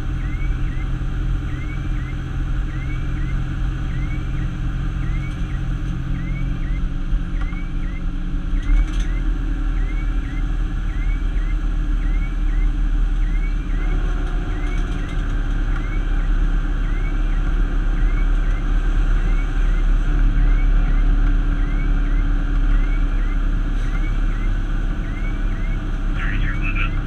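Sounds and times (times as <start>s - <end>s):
truck engine and tyre rumble: 0.0s - 27.0s
rising and falling chirp: 1.5s - 13.9s, 15.8s - 27.0s.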